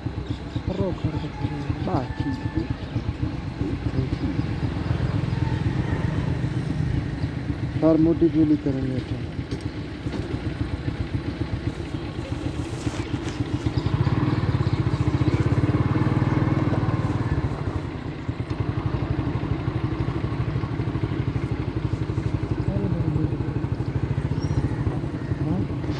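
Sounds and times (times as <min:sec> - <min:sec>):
engine with rapid low putter: 0:00.0 - 0:25.9.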